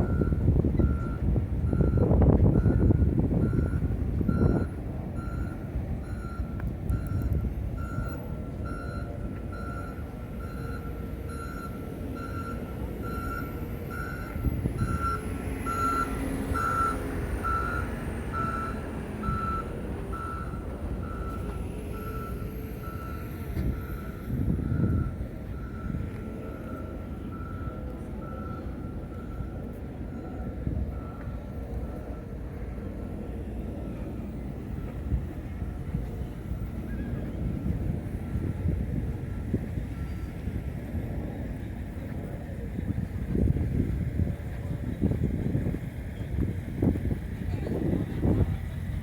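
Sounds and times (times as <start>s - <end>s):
reversing alarm beeping: 0.0s - 40.8s
low rush of traffic or wind: 0.0s - 49.0s.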